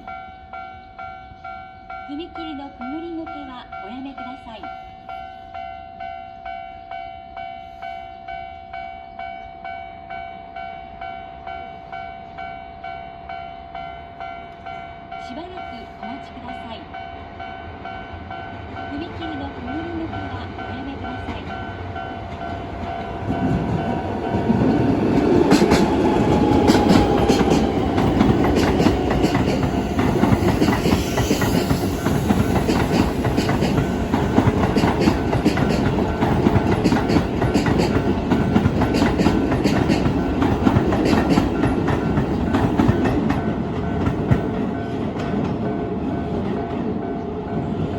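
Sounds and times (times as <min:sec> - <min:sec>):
crossing warning bell ringing: 0:00.0 - 0:47.9
electric train rumbling past: 0:00.0 - 0:47.9.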